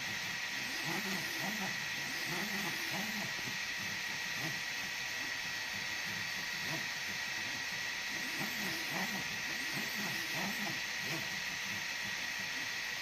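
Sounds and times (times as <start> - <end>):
printer hiss with high whine: 0.0 - 13.0
stepper motor tones: 0.0 - 13.0.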